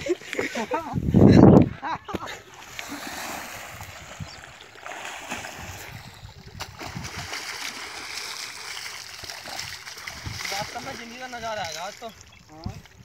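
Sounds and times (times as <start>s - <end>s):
small water splashes: 2.2s - 13.0s.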